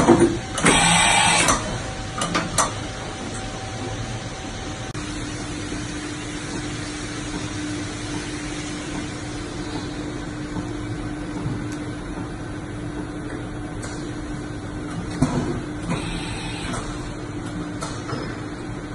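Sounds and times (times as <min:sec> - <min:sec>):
machine steady hum: 0:00.0 - 0:18.9.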